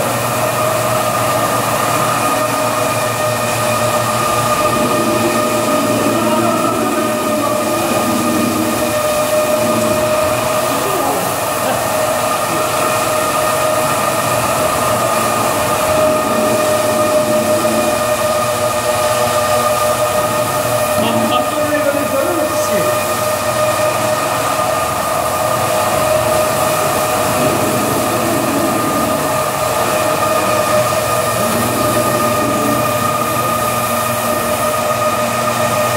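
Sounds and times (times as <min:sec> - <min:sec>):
carpet washing machine whining: 0:00.0 - 0:35.9.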